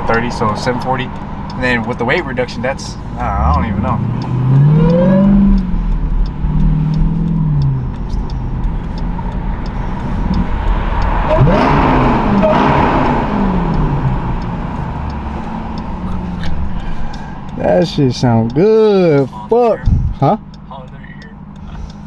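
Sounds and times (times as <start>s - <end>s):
car engine revving hard: 0.0s - 20.5s.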